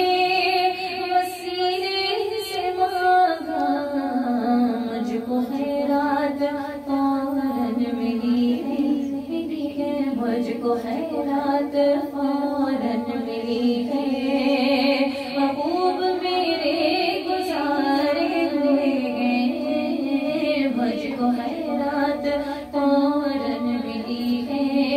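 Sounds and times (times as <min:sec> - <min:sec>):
woman singing devotional song: 0:00.0 - 0:24.9.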